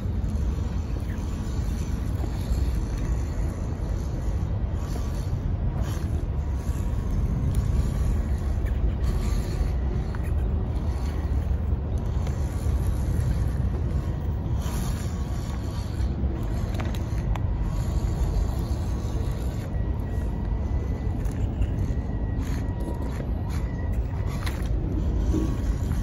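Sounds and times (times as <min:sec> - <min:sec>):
faint whine: 0:00.0 - 0:26.0
low rumble: 0:00.0 - 0:26.0
small electric motor running: 0:00.0 - 0:26.0.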